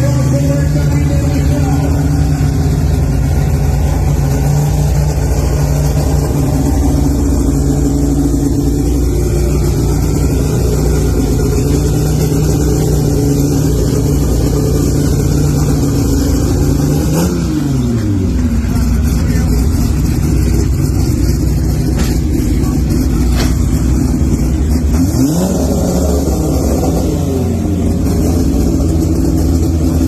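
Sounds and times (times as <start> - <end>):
car engine idling: 0.0 - 30.0
car engine revving: 0.0 - 30.0.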